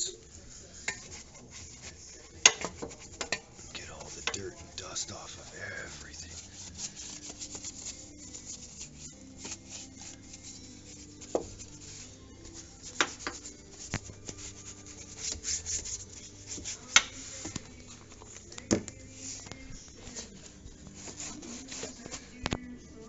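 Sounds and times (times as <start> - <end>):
stiff brush scrubbing: 0.3 - 22.6.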